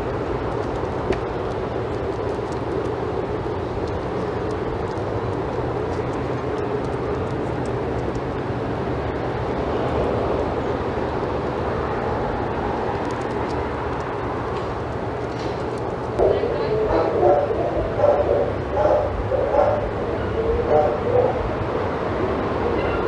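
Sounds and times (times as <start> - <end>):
distant engine drone: 0.0 - 23.0.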